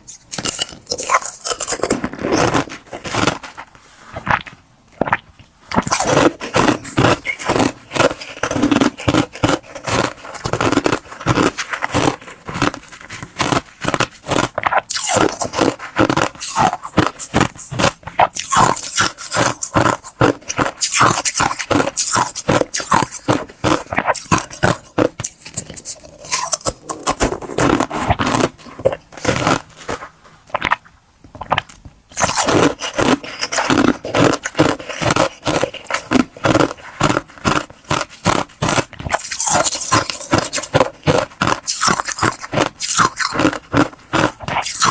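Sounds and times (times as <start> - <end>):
ice being chewed: 0.0 - 44.9.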